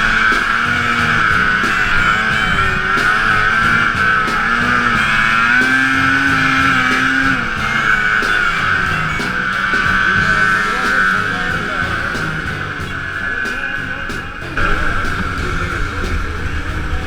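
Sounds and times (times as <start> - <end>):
rock music with guitar: 0.0 - 17.0
snowmobile engine revving high: 0.0 - 17.0.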